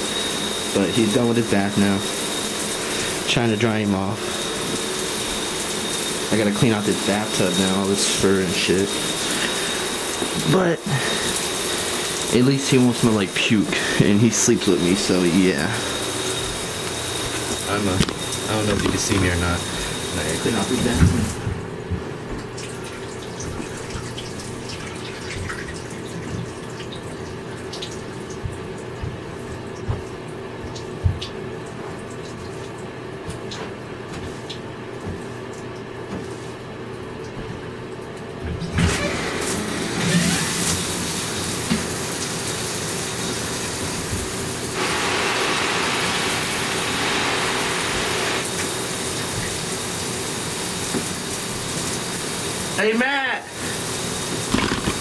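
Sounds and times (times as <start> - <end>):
water running in bathtub: 0.0 - 55.0.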